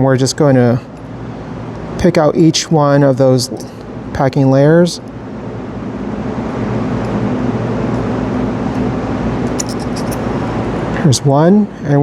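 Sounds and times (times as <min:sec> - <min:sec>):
mechanical low hum: 0:00.0 - 0:12.0.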